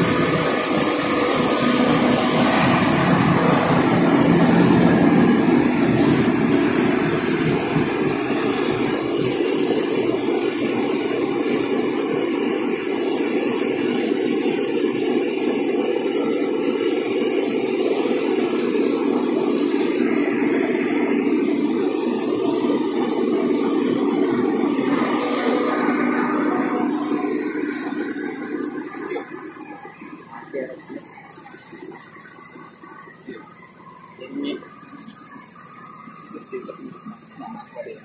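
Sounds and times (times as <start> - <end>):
diesel engines running: 0.0 - 38.0.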